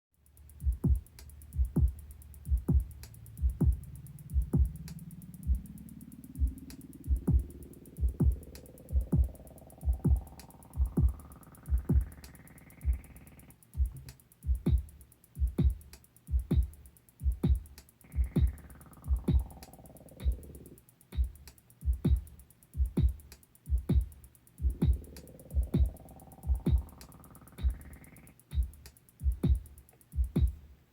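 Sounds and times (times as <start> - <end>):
fast hi-hat tick: 0.1 - 30.9
kick drum: 0.5 - 5.8, 6.4 - 12.2, 12.8 - 13.1, 13.8 - 19.6, 20.2 - 27.0, 27.6 - 27.9, 28.5 - 30.8.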